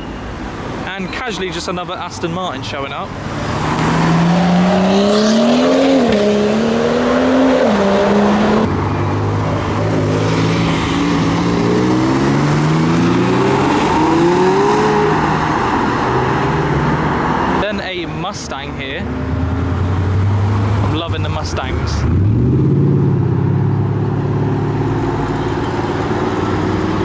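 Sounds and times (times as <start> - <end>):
car engines accelerating: 1.9 - 27.0.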